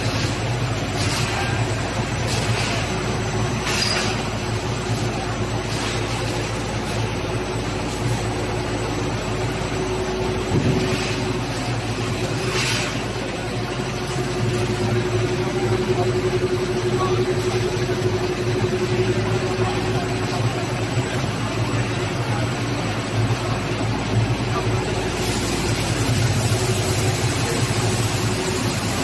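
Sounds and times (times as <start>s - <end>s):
machine hum with held tone: 0.0s - 29.0s.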